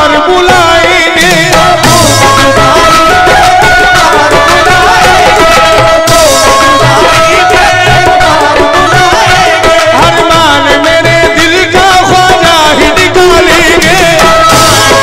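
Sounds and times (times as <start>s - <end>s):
harmoniums holding notes: 0.0s - 15.0s
tabla drumming: 0.0s - 15.0s
voices singing: 0.0s - 15.0s.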